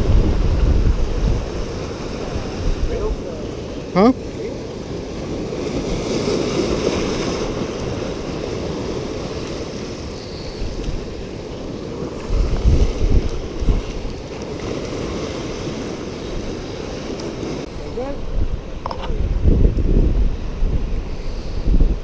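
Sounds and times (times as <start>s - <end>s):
surf splashing against rocks: 0.0s - 22.0s
wind buffeting microphone: 0.0s - 22.0s.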